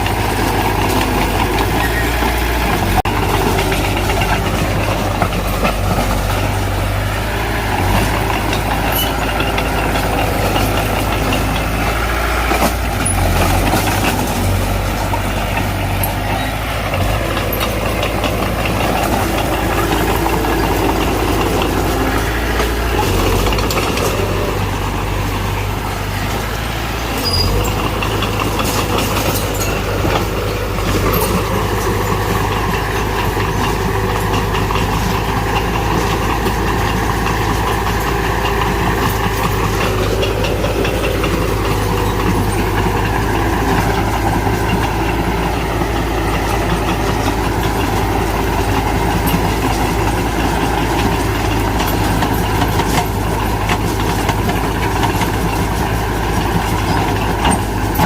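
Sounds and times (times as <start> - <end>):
heavy machinery diesel engine running: 0.0 - 58.0.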